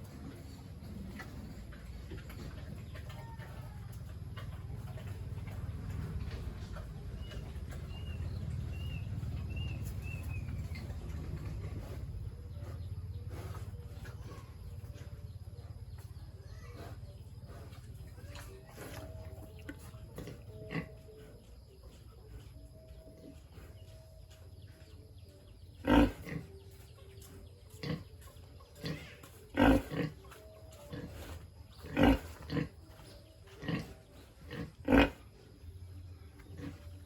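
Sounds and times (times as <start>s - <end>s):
pigs grunting: 0.0s - 24.6s, 25.5s - 37.0s.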